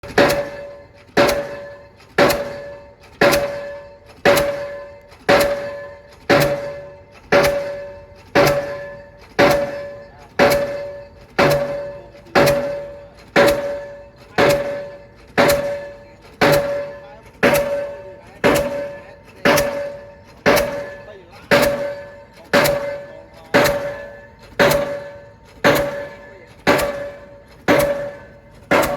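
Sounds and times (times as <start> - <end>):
pile hammer strikes with metallic ring: 0.0 - 28.9.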